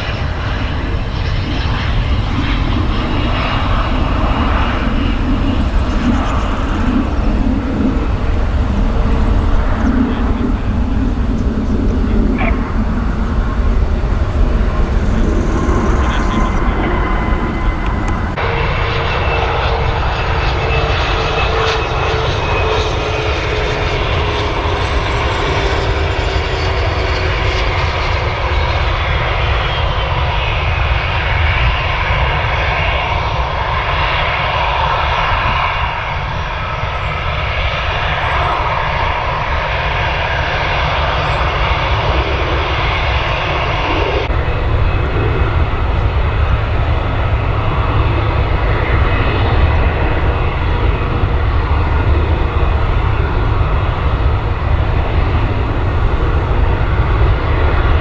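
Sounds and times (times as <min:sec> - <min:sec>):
jet engines roaring and whining: 0:00.0 - 0:58.0.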